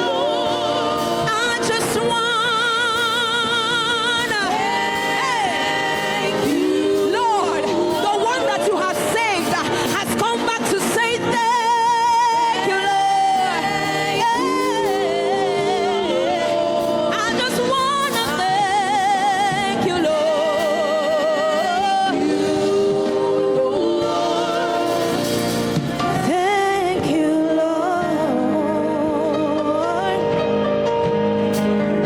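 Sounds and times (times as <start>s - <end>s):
gospel singing: 0.0s - 32.0s
instrumental accompaniment: 0.0s - 32.0s.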